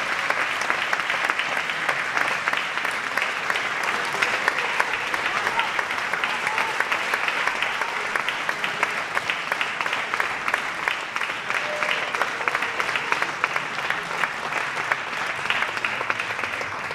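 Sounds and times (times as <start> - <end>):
audience applause: 0.0 - 16.9.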